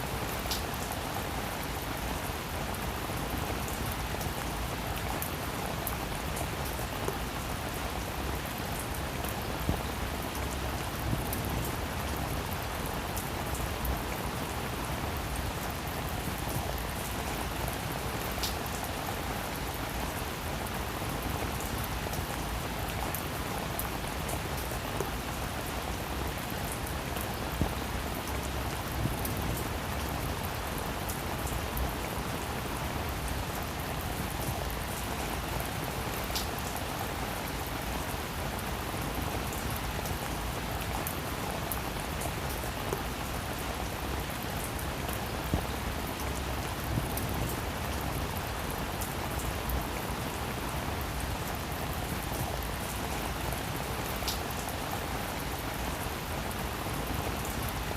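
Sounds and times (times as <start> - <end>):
rain on a roof: 0.0 - 57.9.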